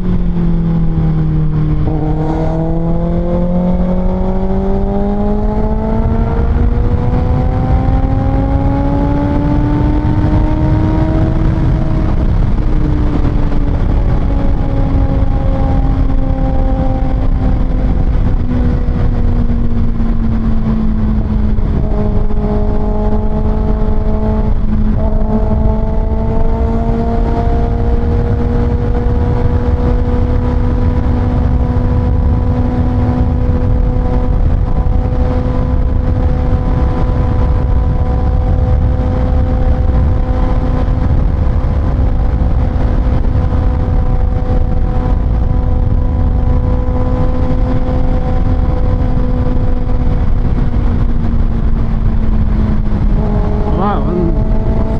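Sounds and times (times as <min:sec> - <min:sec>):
motorcycle engine cruising: 0:00.0 - 0:54.9
wind and road noise: 0:00.0 - 0:54.9.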